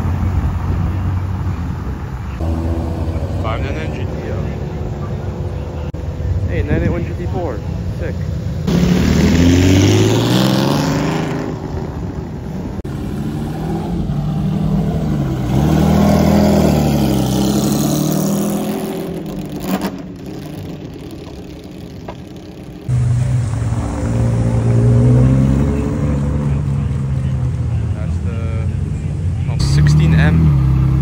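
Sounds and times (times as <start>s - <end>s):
sports car engines revving: 0.0s - 31.0s.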